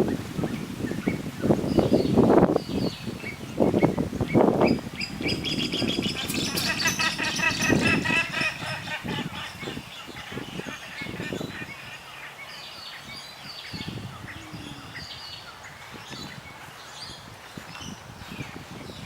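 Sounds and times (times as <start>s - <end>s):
birds chirping and calling: 0.1s - 19.0s.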